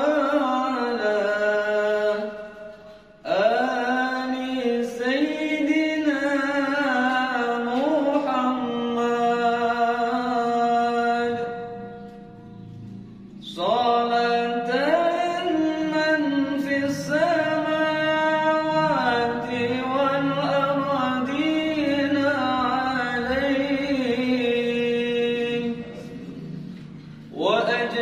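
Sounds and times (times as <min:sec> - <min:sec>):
man chanting melismatic melody: 0:00.0 - 0:28.0.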